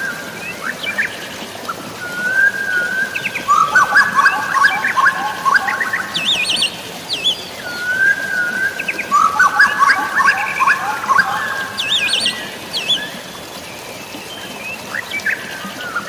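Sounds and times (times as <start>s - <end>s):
rain and flowing water: 0.0s - 16.0s
songbirds singing: 0.0s - 16.0s.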